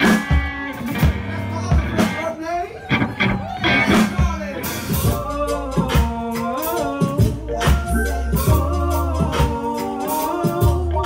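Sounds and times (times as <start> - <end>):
deep bass line: 0.0 - 11.0
drum kit: 0.0 - 11.0
electric guitar: 0.0 - 11.0.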